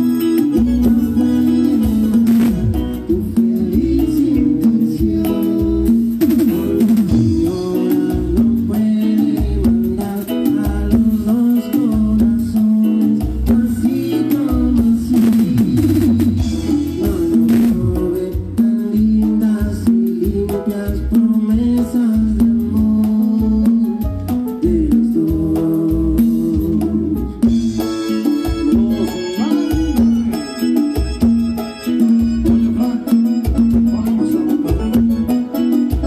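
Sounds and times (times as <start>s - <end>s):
person singing: 0.0s - 30.7s, 32.0s - 36.0s
drum kit beat: 0.0s - 36.0s
electric bass: 0.0s - 36.0s
live cumbia band: 0.0s - 36.0s.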